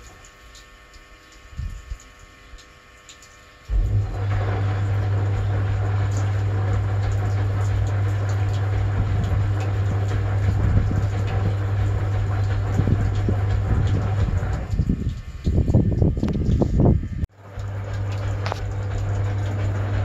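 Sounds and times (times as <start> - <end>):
washing machine motor humming: 0.0 - 20.0
washing machine drum rumbling: 3.7 - 20.0
water churning: 3.7 - 20.0.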